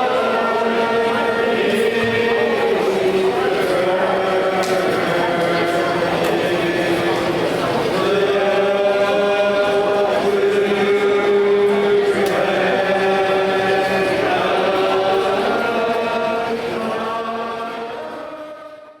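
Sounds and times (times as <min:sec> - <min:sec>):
choir-like held chords: 0:00.0 - 0:19.0.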